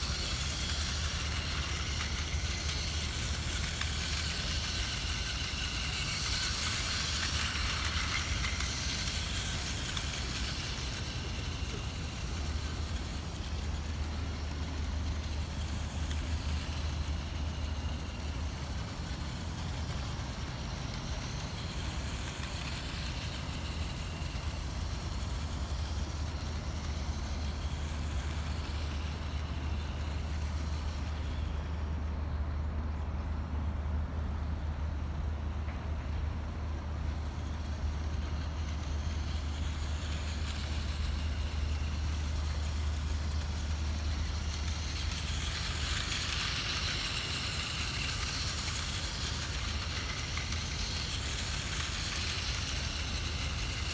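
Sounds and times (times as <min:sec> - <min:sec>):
low rumble of road traffic: 0:00.0 - 0:53.9
toy train whirring: 0:00.0 - 0:53.9.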